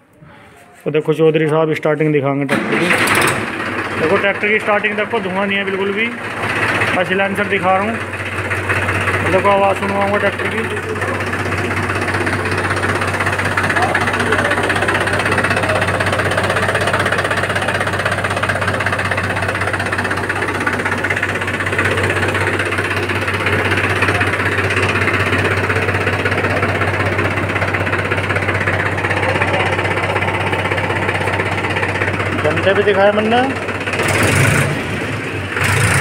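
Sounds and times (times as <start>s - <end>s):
tractor diesel engine idling: 1.4s - 36.0s.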